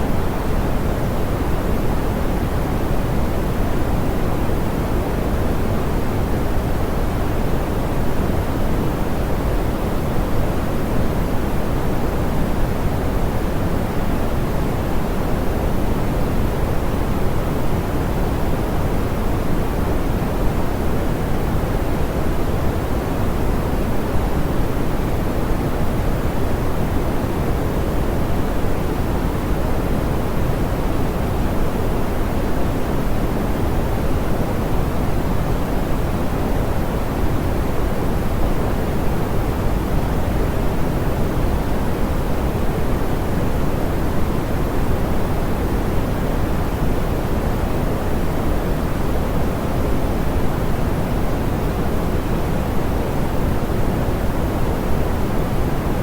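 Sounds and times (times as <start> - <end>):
steady pink noise hiss: 0.0 - 56.0.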